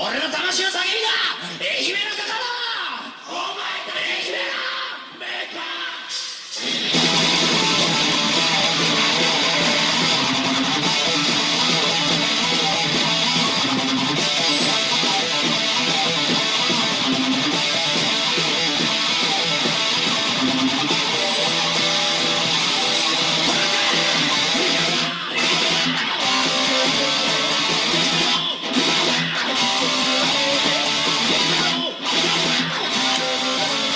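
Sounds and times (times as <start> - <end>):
backing band music: 6.6 - 33.9
electric guitar playing heavy metal: 6.6 - 33.9.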